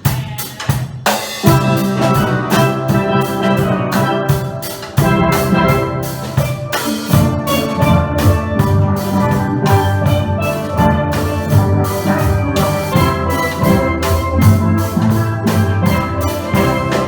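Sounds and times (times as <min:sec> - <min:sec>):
drums beating: 0:00.0 - 0:17.0
steel pan band playing: 0:00.0 - 0:17.0.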